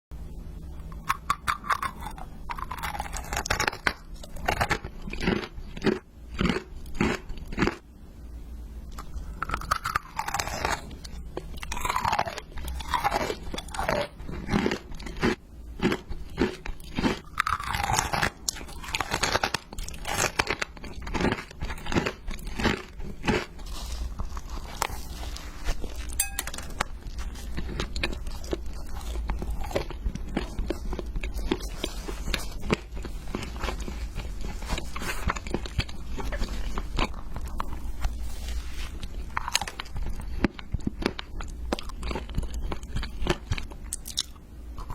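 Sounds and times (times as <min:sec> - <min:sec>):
crisp food crunching: 0:00.8 - 0:07.8, 0:08.9 - 0:44.9.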